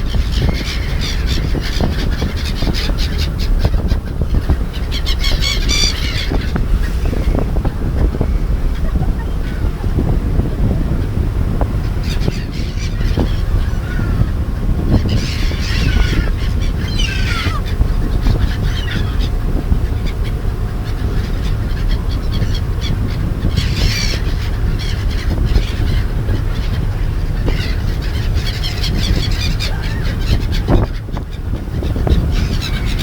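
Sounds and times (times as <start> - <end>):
seagulls calling: 0.0 - 33.0
steady low rumble: 0.0 - 33.0.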